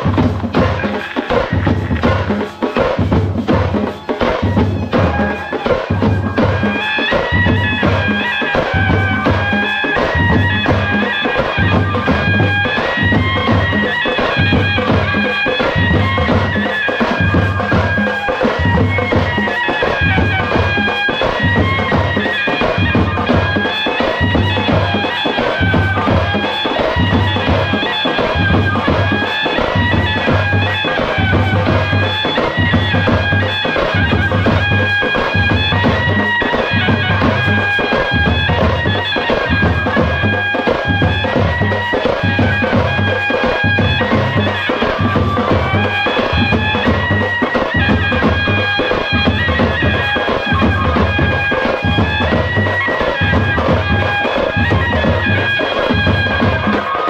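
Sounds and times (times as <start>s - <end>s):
reedy wind instrument melody: 0.0s - 57.0s.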